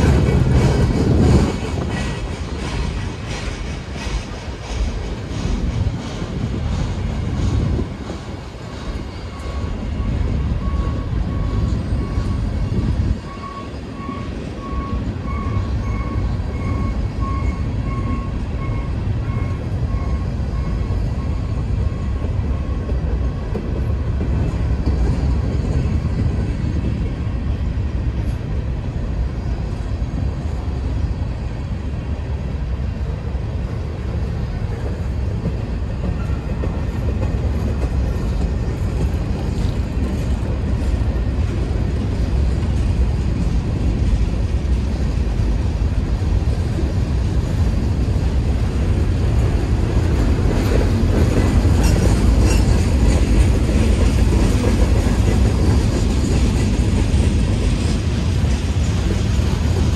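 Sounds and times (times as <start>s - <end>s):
steel wheels rumbling on rails: 0.0s - 59.9s.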